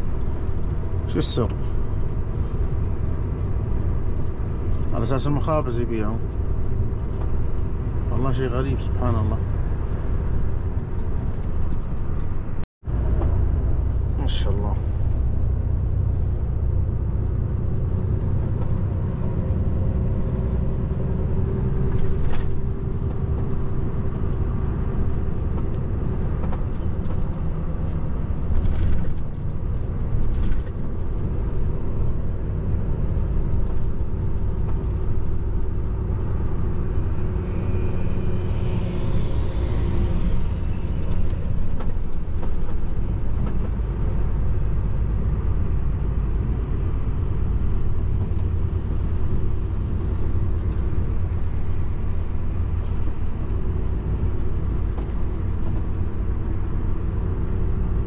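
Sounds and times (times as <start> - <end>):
truck diesel engine rumble: 0.0 - 58.0.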